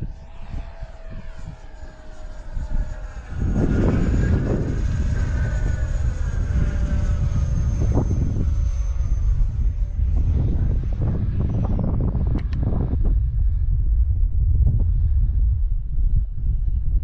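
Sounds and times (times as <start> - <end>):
electric model jet whine: 0.0 - 17.0
wind buffeting microphone: 0.0 - 17.0.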